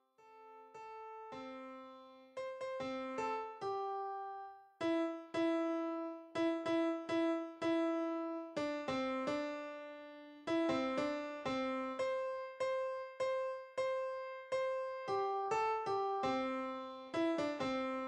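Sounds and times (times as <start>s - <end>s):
slow piano keyboard music: 0.2s - 18.0s.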